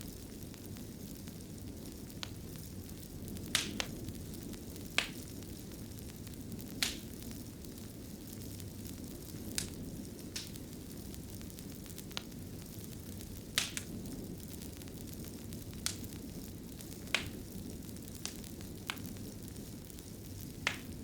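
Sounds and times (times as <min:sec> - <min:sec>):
fire crackling and popping: 0:00.0 - 0:21.0
fire rumbling: 0:00.0 - 0:21.0.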